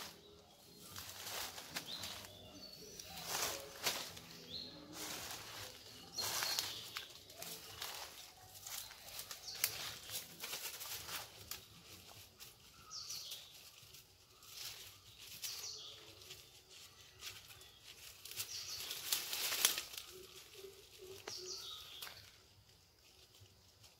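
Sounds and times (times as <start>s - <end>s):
dry leaves rustling and crackling: 0.0s - 23.9s.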